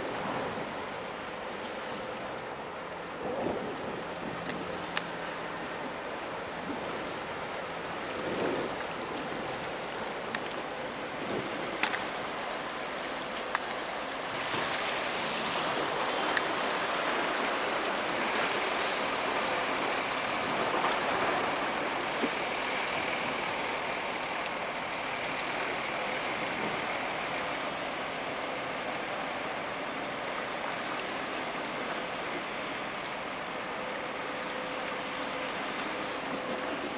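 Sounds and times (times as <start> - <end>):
rushing splashing water: 0.0 - 36.9.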